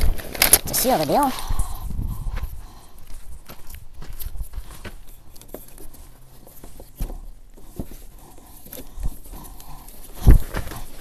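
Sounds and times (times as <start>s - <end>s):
rustling and shuffling: 0.0s - 11.0s.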